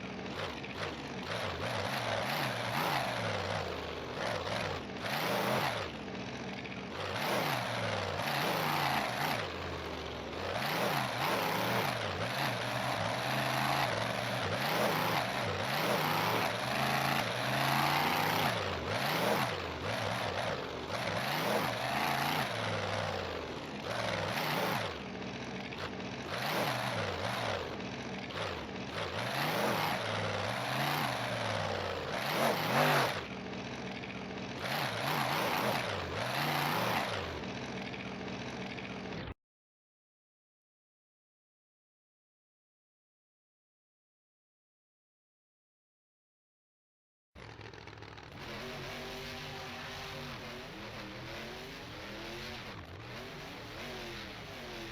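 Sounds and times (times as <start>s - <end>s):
truck engine revving hard: 0.0s - 39.4s, 47.4s - 54.9s.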